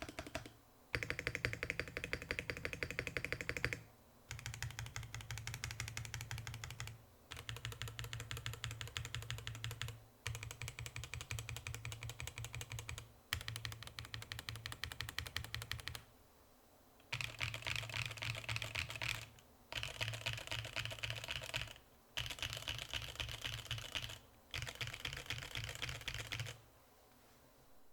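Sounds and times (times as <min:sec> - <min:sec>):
rapid typing on mechanical keyboard: 0:00.0 - 0:16.0, 0:17.1 - 0:26.6.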